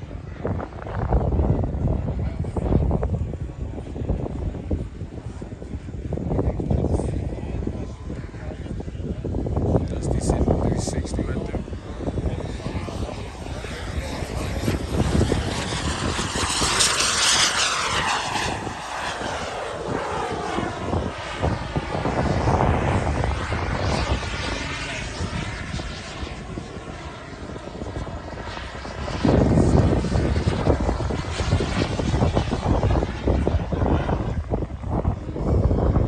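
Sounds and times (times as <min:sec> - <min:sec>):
model airplane engine: 0:00.0 - 0:36.0.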